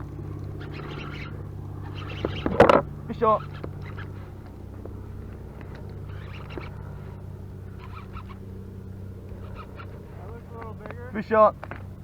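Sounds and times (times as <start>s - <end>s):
faint short calls: 0.0s - 12.0s
low engine hum: 0.0s - 12.0s.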